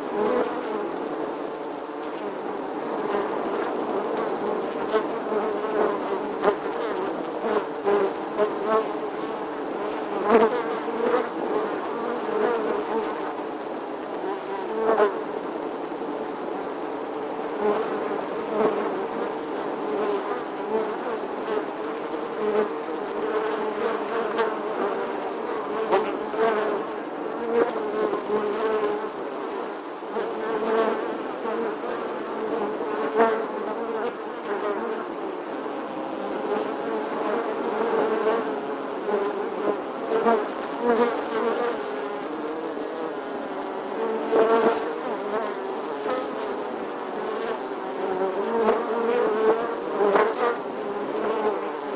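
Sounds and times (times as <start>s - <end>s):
bee buzzing: 0.0s - 16.1s, 16.8s - 51.9s.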